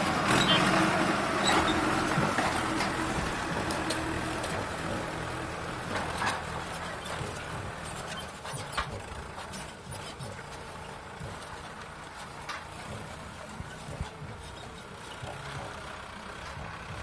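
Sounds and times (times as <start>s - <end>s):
tractor diesel engine running: 0.0s - 17.0s
sharp clicks and rattles: 0.2s - 17.0s.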